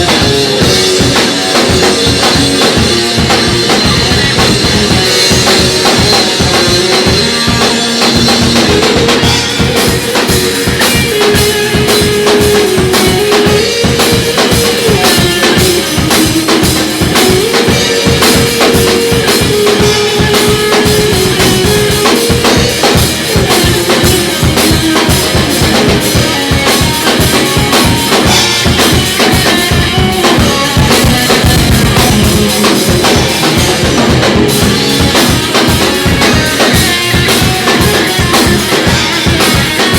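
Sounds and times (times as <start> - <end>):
drum-kit beat: 0.0 - 39.9
rock band lead melody: 0.0 - 39.9.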